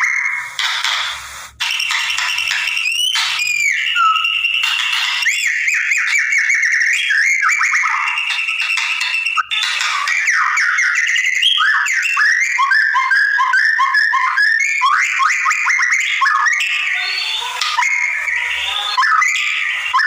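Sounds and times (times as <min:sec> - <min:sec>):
bird chirping and squawking: 0:00.0 - 0:20.0.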